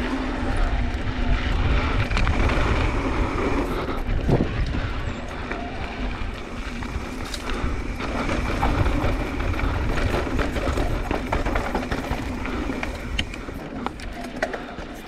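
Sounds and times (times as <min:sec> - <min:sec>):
bike ticks and rattles: 0:00.0 - 0:15.0
wind rumbling on camera: 0:00.0 - 0:15.0.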